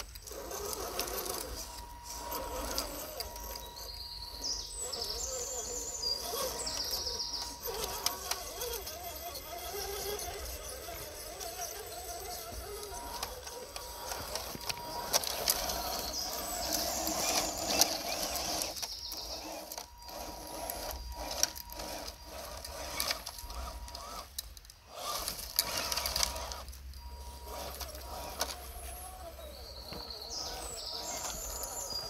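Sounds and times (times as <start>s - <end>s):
thin electric motor whine: 0.0s - 32.0s.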